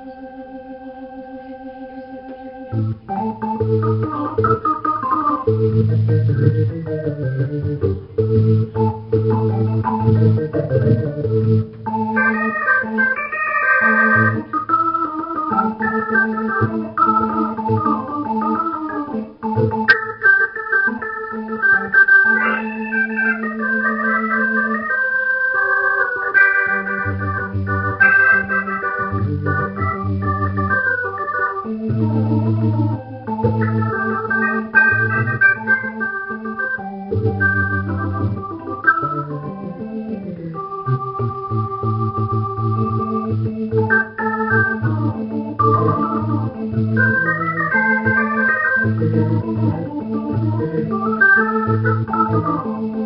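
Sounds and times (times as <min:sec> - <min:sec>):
organ chords: 0:00.0 - 0:53.0
low bass notes: 0:02.7 - 0:24.5, 0:26.0 - 0:53.0.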